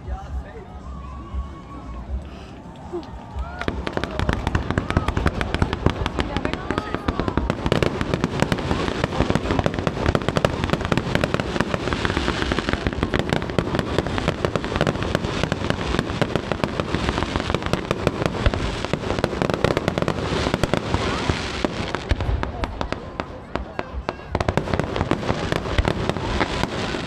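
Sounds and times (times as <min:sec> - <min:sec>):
fireworks bangs and crackles: 0:01.4 - 0:27.0.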